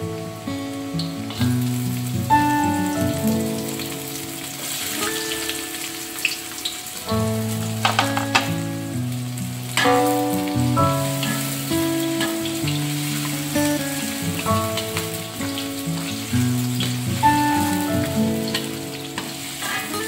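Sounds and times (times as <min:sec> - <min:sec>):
background music with held notes: 0:00.0 - 0:20.0
food sizzling in a pan: 0:00.0 - 0:20.0.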